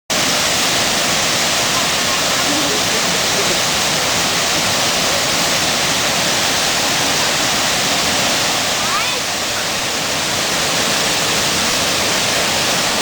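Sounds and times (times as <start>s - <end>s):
running water rushing: 0.1s - 13.0s.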